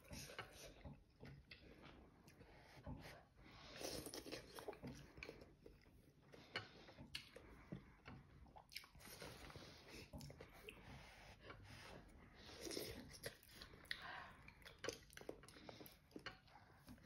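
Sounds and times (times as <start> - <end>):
slurping and chewing noodles: 0.0 - 17.0.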